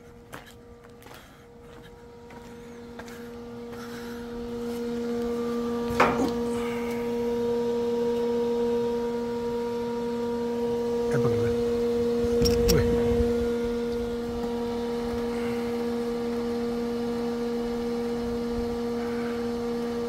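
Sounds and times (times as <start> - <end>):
pump machine hum: 0.0 - 20.0.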